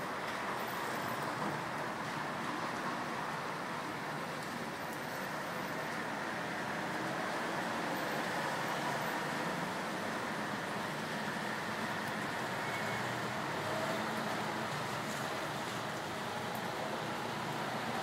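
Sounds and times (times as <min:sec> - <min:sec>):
road traffic hiss: 0:00.0 - 0:18.0.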